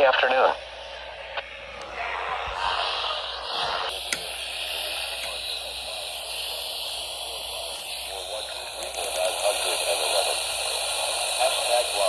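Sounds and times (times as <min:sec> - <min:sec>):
faint voice on radio: 0:00.0 - 0:00.7, 0:01.3 - 0:12.0
radio static hiss: 0:00.0 - 0:12.0.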